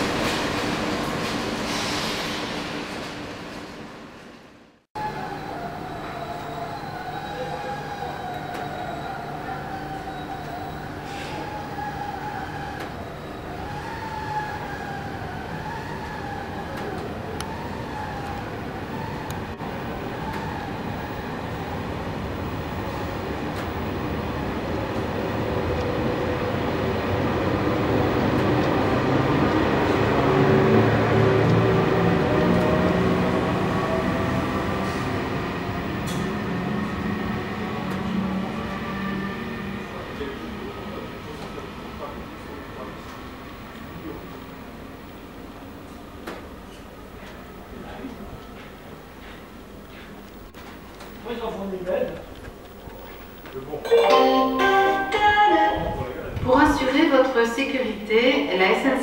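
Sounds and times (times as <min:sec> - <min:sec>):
train rolling rumble: 0:00.0 - 0:53.8.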